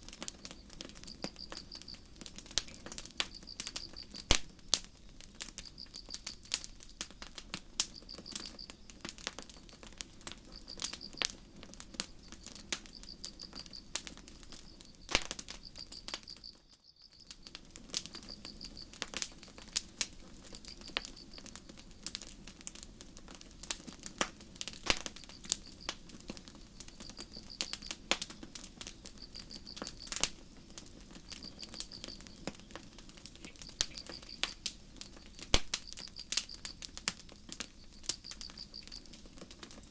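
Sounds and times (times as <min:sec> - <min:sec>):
campfire crackling and popping: 0:00.0 - 0:39.9
crickets chirping: 0:00.1 - 0:23.0, 0:25.0 - 0:39.9.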